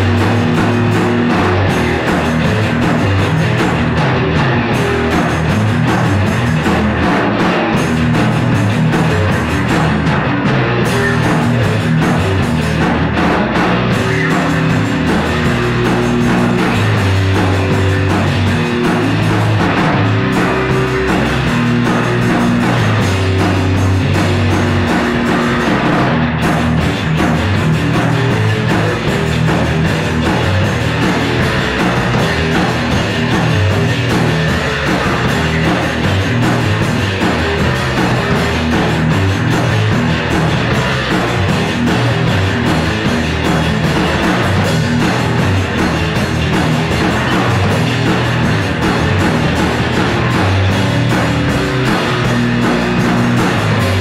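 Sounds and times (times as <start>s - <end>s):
bass guitar long low notes: 0.0s - 54.0s
drum kit: 0.0s - 54.0s
loud electric guitar: 0.0s - 54.0s.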